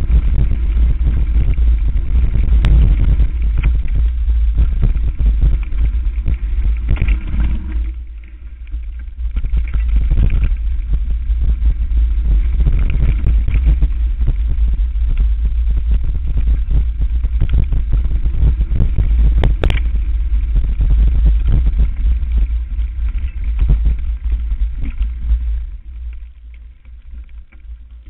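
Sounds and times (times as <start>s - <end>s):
bike rattling over roots: 0.0s - 28.0s
wind buffeting microphone: 0.0s - 28.0s.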